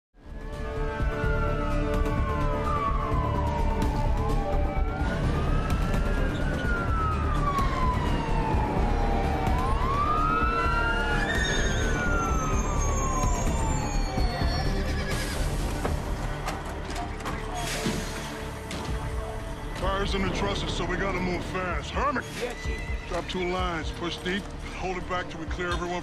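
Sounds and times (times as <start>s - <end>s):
sirens wailing: 0.3s - 26.0s.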